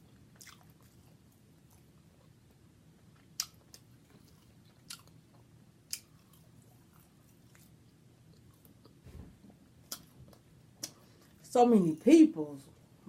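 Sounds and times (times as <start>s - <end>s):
wet chewing of food: 0.0s - 11.4s.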